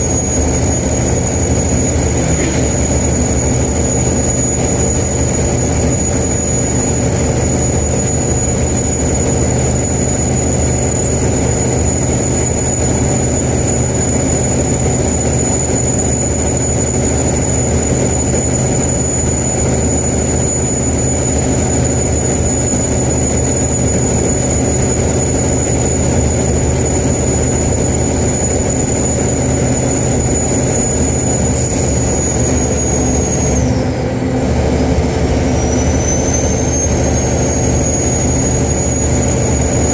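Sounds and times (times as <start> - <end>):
diesel engine running: 0.0 - 39.9
turbocharger whistling: 0.0 - 39.9.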